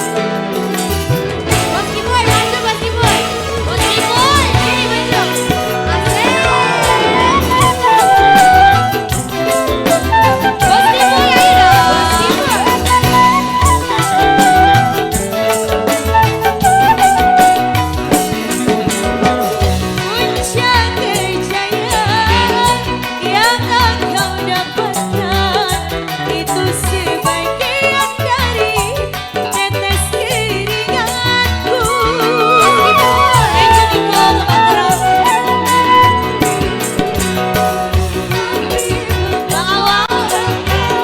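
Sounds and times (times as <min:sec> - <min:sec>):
busy drum rhythm: 0:00.0 - 0:41.0
ornamented band melody: 0:00.0 - 0:41.0.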